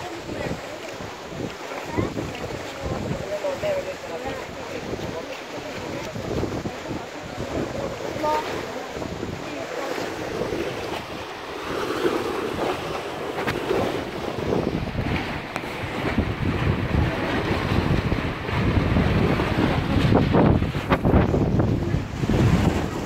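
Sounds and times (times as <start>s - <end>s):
water washing against concrete: 0.0s - 23.0s
wind buffeting microphone: 0.0s - 23.0s.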